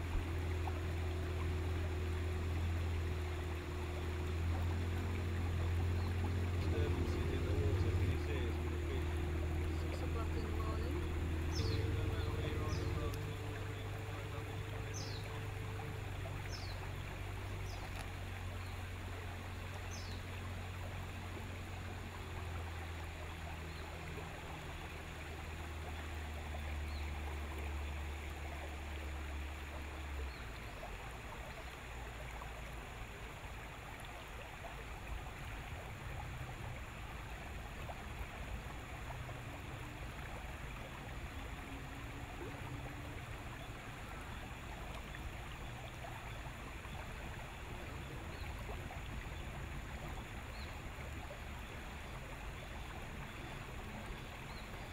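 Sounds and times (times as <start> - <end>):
outboard motor humming: 0.0 - 54.9
water rushing along hull: 0.0 - 54.9.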